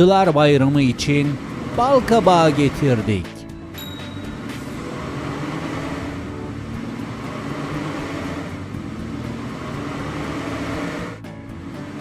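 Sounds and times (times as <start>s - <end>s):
cartoon car engine hum: 0.0s - 12.0s.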